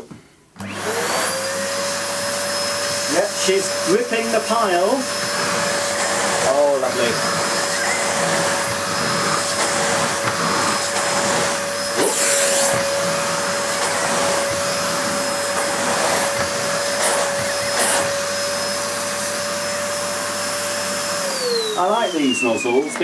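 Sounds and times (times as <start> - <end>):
vacuum cleaner motor whine: 0.6 - 23.0
floor tool pushed over carpet: 0.7 - 21.6.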